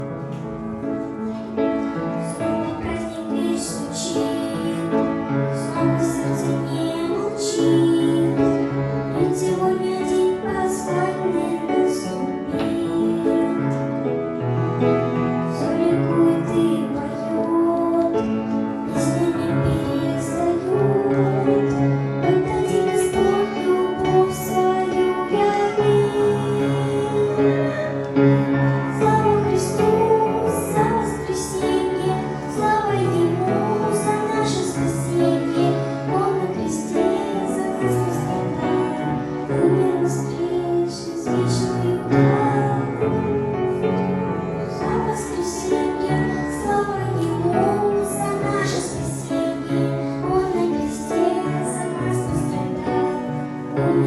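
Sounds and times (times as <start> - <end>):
instrumental accompaniment: 0.0 - 54.0
person singing: 2.2 - 14.0, 15.5 - 54.0.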